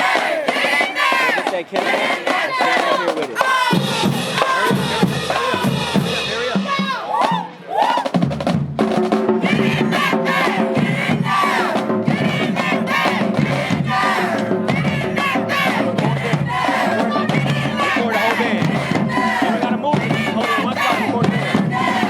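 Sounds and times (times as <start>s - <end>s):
crowd shouting and chanting: 0.0s - 8.2s, 9.3s - 22.0s
drumline playing: 0.0s - 22.0s
marching band held notes: 0.0s - 22.0s.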